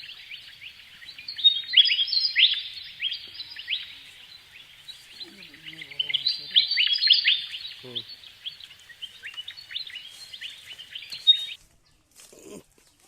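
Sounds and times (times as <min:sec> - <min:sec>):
small birds chirping: 0:00.0 - 0:12.1.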